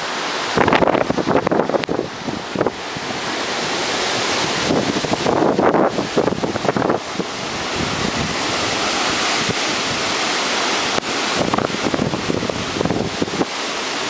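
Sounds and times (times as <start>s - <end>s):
strong wind blowing: 0.0s - 14.0s
wind gusts buffeting microphone: 0.0s - 14.0s.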